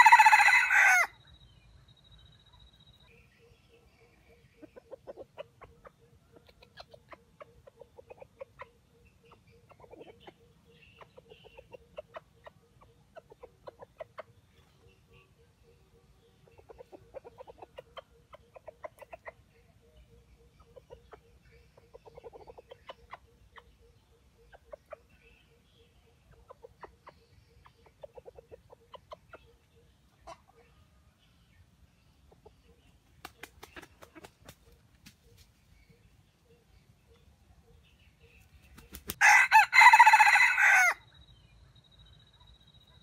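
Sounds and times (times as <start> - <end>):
chicken clucking: 3.0 - 40.1.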